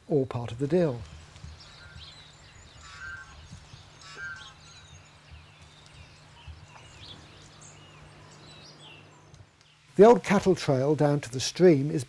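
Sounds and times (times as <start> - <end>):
small birds chirping faintly: 0.0 - 12.0
steady low hum: 0.0 - 12.0.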